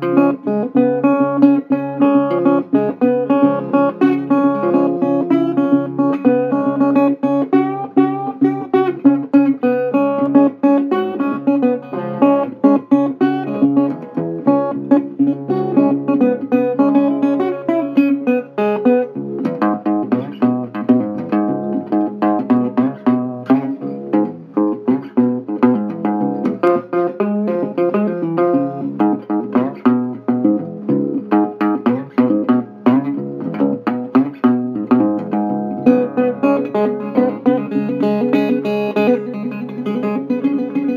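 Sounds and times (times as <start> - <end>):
instrumental guitar music: 0.0 - 40.9.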